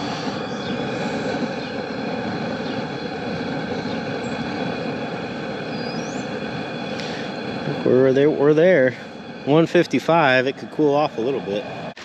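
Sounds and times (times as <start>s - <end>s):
faint hum: 0.0s - 12.0s
propane burner rushing: 0.0s - 12.0s.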